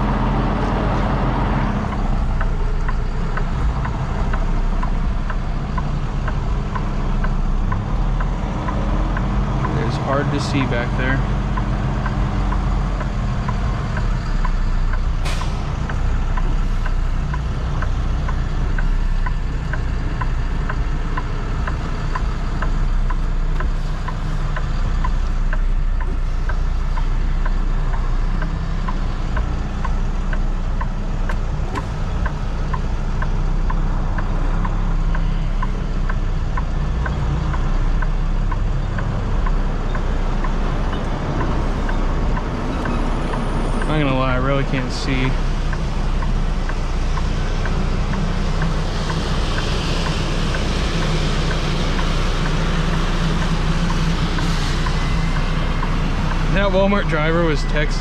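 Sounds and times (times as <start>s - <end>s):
truck diesel engine rumbling: 0.0s - 58.0s
light ticking: 1.6s - 58.0s.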